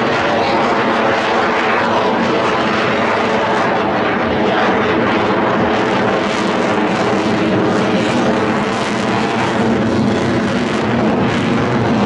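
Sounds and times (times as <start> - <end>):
loud jet roar: 0.0 - 12.0.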